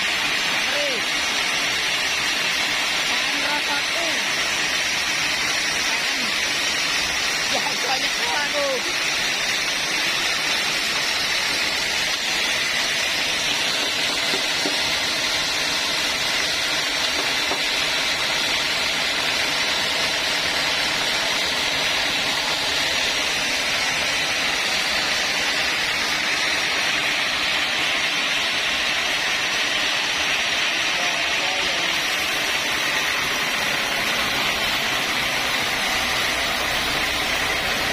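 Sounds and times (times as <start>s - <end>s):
log saw running: 0.0s - 37.9s.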